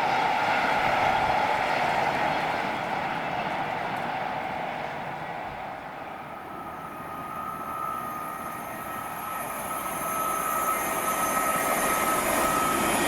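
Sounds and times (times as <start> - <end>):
electric train high whine: 0.0 - 13.0
wheel and rail noise: 0.0 - 13.0.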